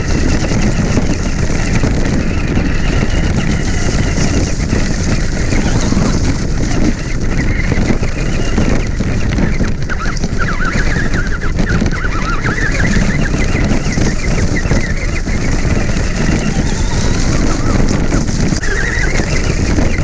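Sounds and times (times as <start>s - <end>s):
toy car wheels rumbling and rattling: 0.0s - 20.0s
wavering high whine: 0.0s - 20.0s.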